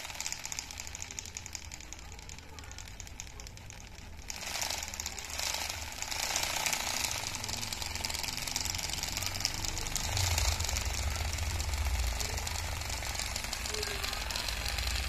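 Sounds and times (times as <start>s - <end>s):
plastic pistons rattling rapidly: 0.0s - 15.0s
small motor spinning model engine: 0.0s - 15.0s.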